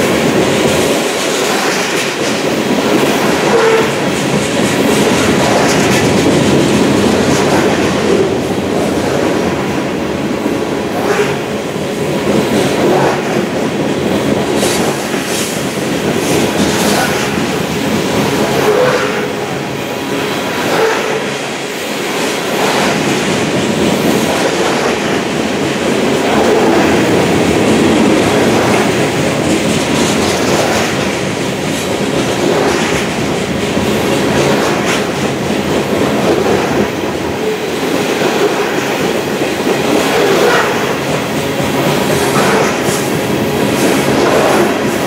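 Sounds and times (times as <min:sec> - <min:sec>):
steel wheels rumbling on rail: 0:00.0 - 0:45.0
wheels clicking over rail joints: 0:00.0 - 0:45.0.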